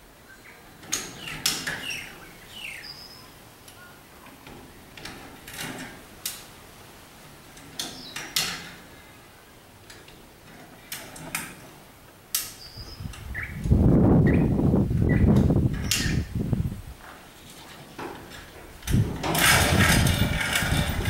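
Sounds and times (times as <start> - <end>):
loud continuous noise: 0.0 - 21.0.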